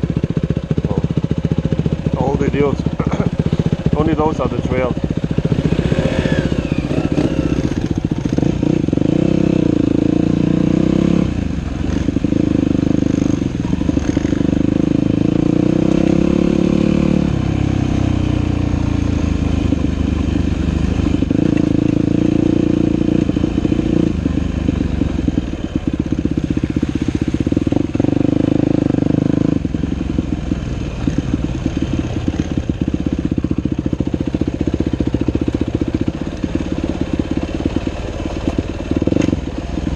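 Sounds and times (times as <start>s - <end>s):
dirt bike engine revving: 0.6s - 39.9s.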